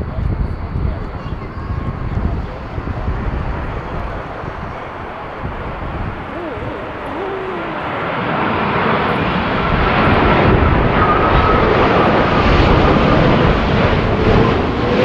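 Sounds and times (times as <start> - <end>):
jet engine roar: 1.6 - 15.0.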